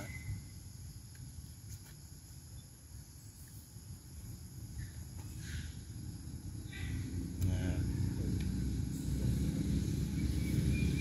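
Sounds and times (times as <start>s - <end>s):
high-pitched insect drone: 0.0s - 1.1s, 2.1s - 11.0s.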